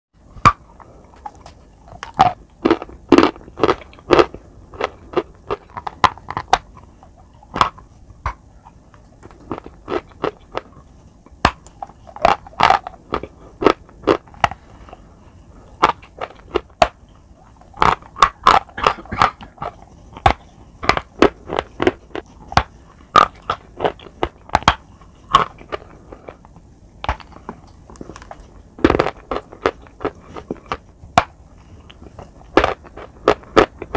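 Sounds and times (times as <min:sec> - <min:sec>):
chalk crunching being chewed: 0:00.7 - 0:15.0, 0:15.7 - 0:33.9.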